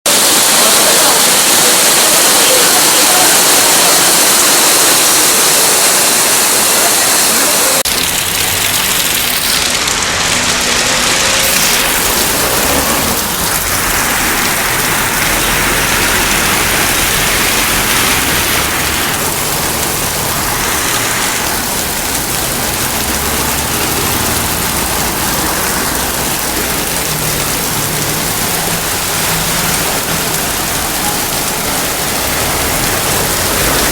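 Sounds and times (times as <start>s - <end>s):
water rushing: 0.1s - 33.9s.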